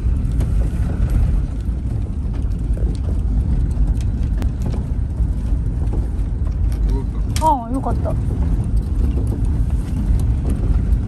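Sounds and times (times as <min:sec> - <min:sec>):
engine and road noise rumble: 0:00.0 - 0:11.0.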